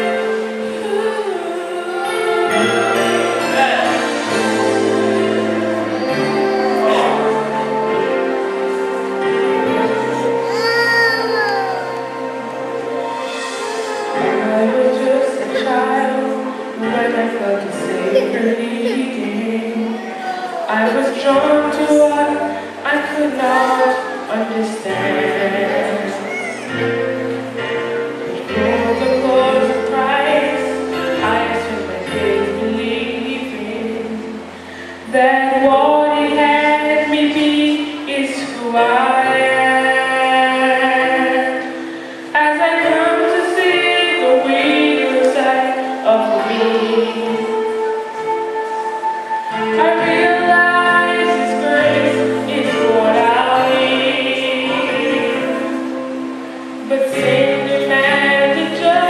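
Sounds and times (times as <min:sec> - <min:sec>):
choir singing held chords: 0:00.0 - 0:59.0.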